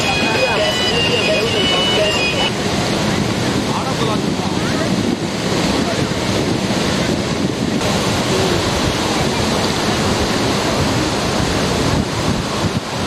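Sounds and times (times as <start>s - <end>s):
sea surf rushing: 0.0s - 13.0s
wind on microphone: 0.0s - 13.0s.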